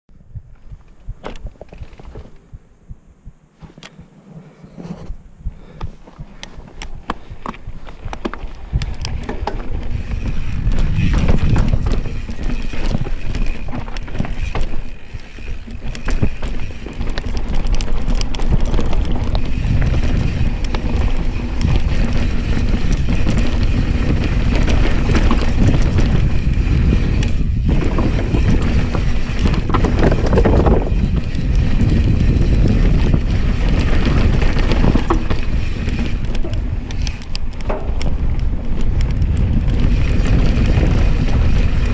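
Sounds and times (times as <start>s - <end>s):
wind on microphone: 0.1s - 41.9s
bike tyres rumbling over dirt: 0.2s - 41.9s
bike rattles and knocks: 0.4s - 2.6s, 3.6s - 41.9s.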